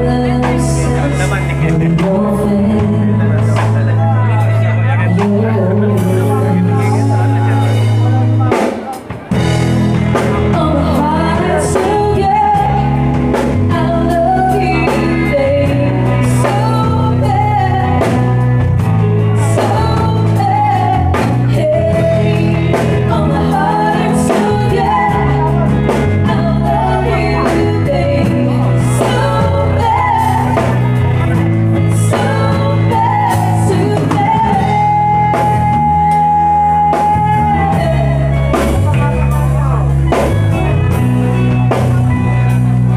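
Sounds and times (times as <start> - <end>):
bass line: 0.0 - 42.9
drum kit: 0.0 - 42.9
person singing: 0.0 - 42.9.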